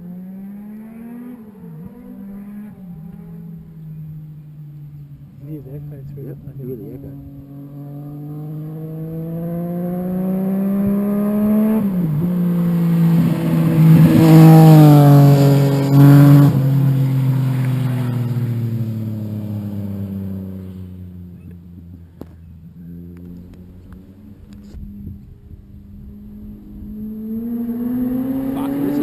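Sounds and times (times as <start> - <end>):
motorcycle accelerating past: 0.0 - 29.0.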